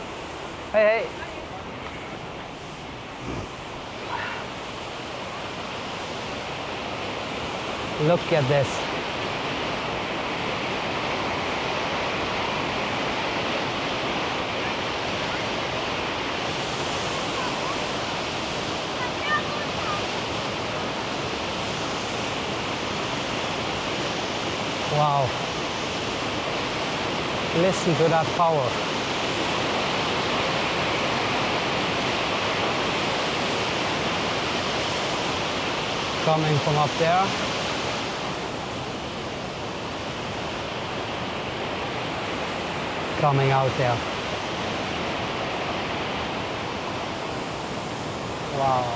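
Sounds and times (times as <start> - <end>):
waterfall roaring: 0.0 - 48.9.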